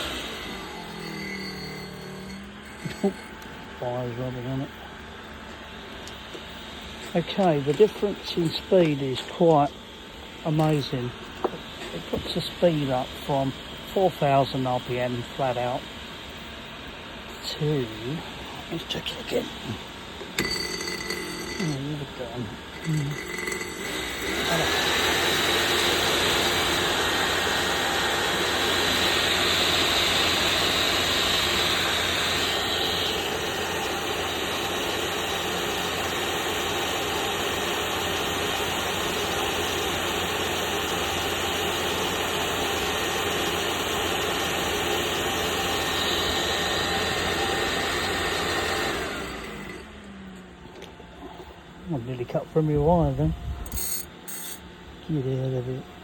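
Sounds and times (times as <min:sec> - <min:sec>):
fan motor whining: 0:00.0 - 0:56.0.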